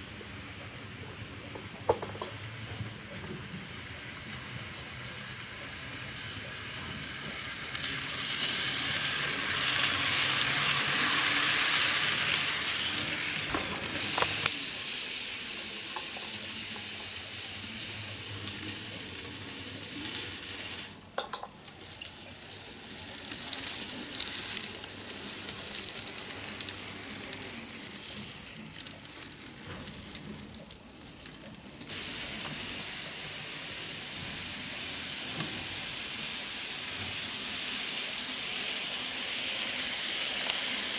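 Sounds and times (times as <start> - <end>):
model trains rattling on track: 1.2 - 40.9.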